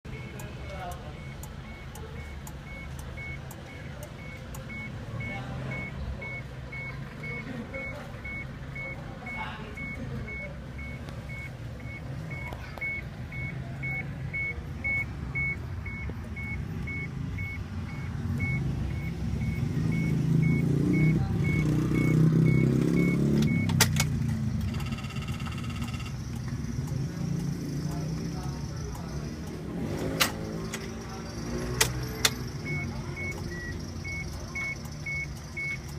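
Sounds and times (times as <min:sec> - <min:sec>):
electronic warning beep: 0:00.1 - 0:24.0, 0:24.6 - 0:35.9
van engine cranking: 0:00.1 - 0:35.9.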